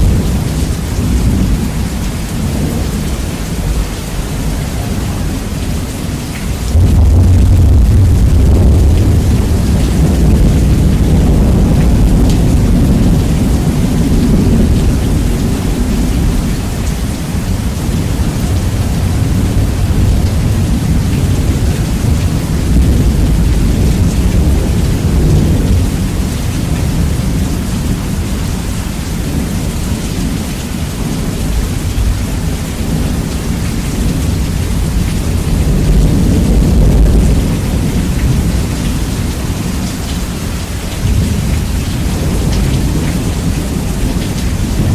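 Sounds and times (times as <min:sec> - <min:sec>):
rolling thunder: 0:00.0 - 0:44.9
steady rain: 0:00.0 - 0:44.9.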